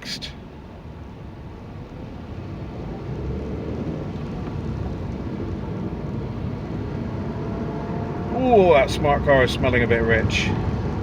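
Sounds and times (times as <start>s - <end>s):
car engine rumble: 0.0s - 11.0s
road noise inside car: 0.0s - 11.0s.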